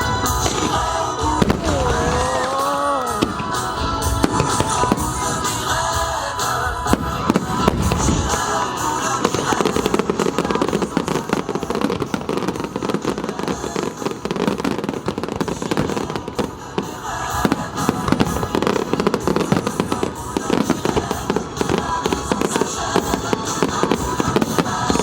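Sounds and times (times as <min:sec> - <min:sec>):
fireworks bursting and crackling: 0:00.0 - 0:25.0
music: 0:00.0 - 0:25.0.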